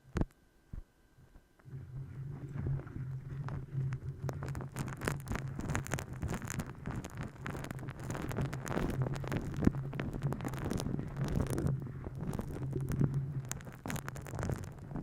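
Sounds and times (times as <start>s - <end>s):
steady low hum: 0.0s - 15.0s
tapping and rubbing on a microphone: 0.0s - 15.0s.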